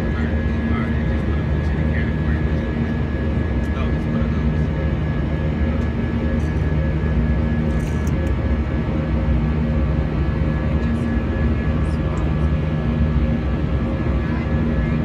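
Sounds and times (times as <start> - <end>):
jet cabin rumble: 0.0 - 15.0
steady hums: 0.0 - 15.0.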